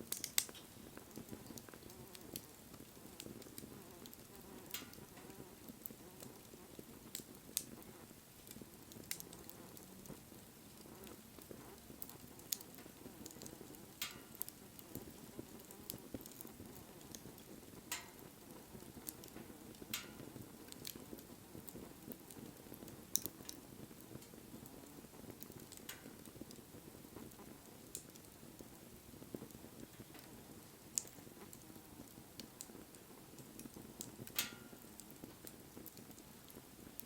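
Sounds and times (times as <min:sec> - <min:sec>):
wood crackling and popping: 0:00.0 - 0:37.0.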